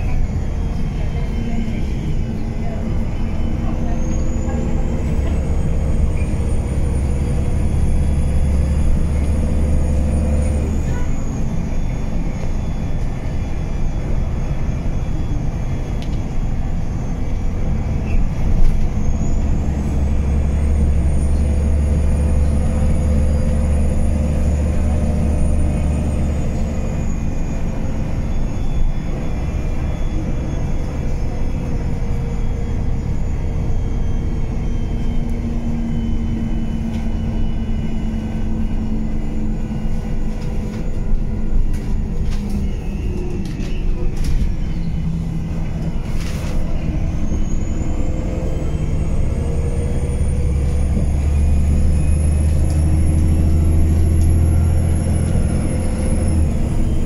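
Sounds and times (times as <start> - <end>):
bus engine drone: 0.0 - 57.0
drivetrain high whine: 0.0 - 57.0.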